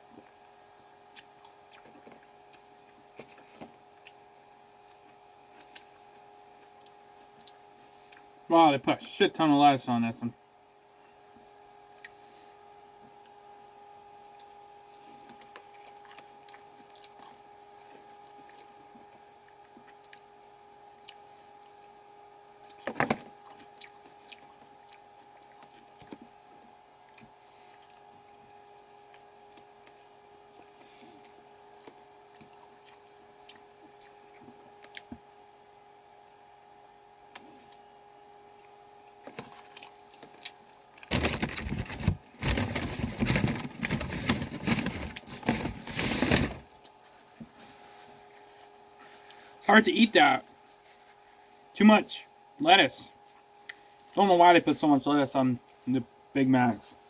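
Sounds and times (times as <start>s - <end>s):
person chewing with crunches: 0.0s - 8.4s, 11.2s - 35.6s, 37.2s - 49.6s, 53.2s - 54.2s
faint steady hum: 0.0s - 57.0s.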